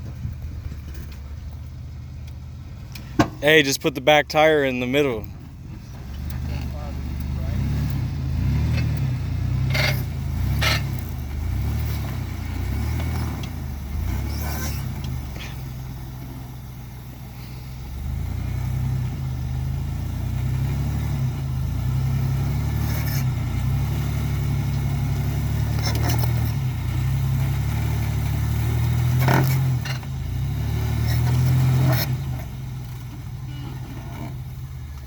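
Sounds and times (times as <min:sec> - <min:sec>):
van engine under load: 0:00.0 - 0:35.0.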